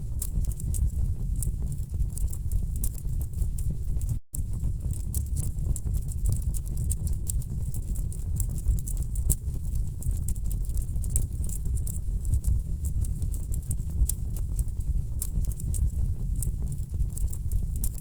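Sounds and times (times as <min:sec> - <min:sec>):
low fire rumble: 0:00.0 - 0:18.0
wood fire crackling and popping: 0:00.2 - 0:18.0.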